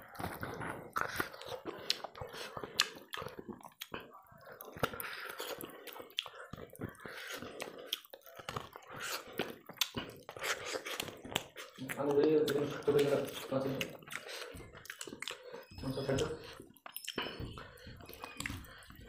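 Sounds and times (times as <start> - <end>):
wet chewing: 0.0 - 19.0.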